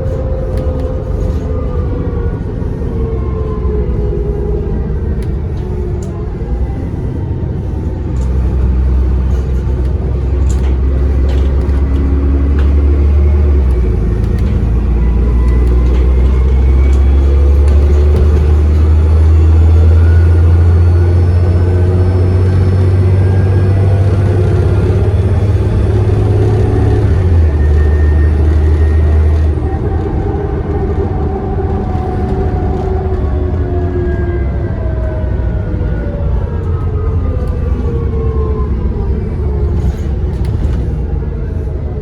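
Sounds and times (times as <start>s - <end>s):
bus body rattling: 0.0s - 42.0s
bus diesel engine accelerating: 0.0s - 42.0s.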